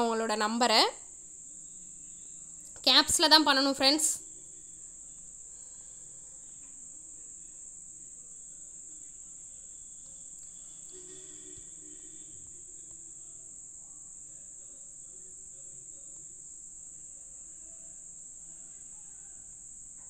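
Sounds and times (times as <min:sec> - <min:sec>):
faint distant voices murmuring: 0:00.0 - 0:20.0
high-pitched insect trill: 0:00.0 - 0:20.0.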